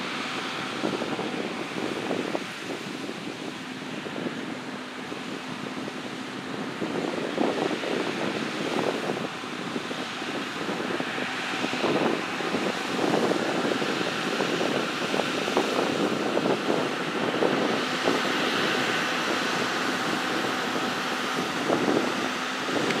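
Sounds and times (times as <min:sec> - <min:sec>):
tractor diesel engine running: 0:00.0 - 0:23.0
wind buffeting microphone: 0:00.0 - 0:23.0.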